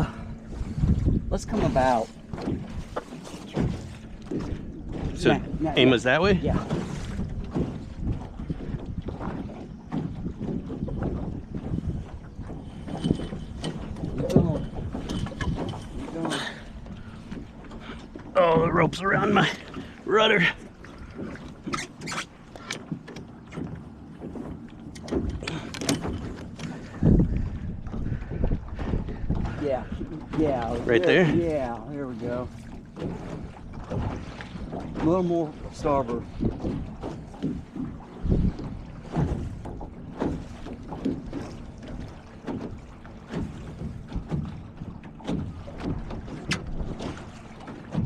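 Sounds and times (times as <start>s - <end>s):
water wash: 0.0s - 11.2s, 12.8s - 28.4s, 29.1s - 48.0s
knocks and clatters on a boat: 0.0s - 48.0s
wind: 0.0s - 48.0s.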